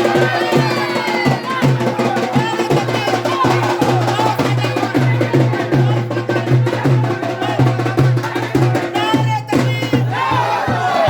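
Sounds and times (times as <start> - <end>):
fast dense drumming: 0.0 - 11.0.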